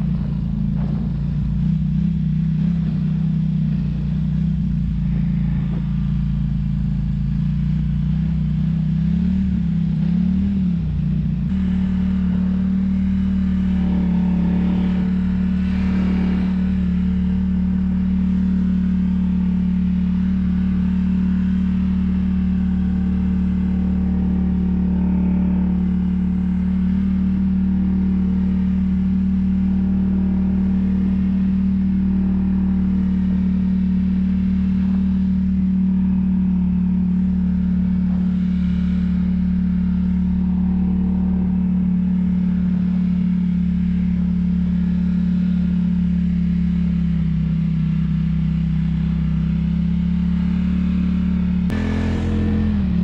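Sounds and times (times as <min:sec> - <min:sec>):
quad engine running: 0:00.0 - 0:53.0.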